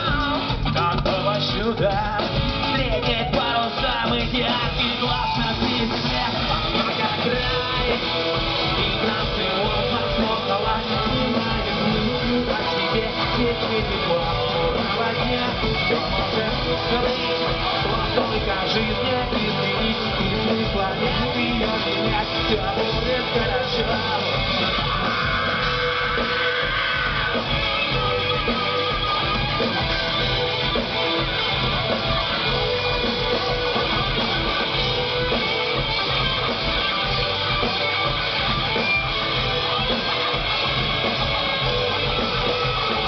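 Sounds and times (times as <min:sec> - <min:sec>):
electric guitar: 0:00.0 - 0:43.0
live rock band playing: 0:00.0 - 0:43.0.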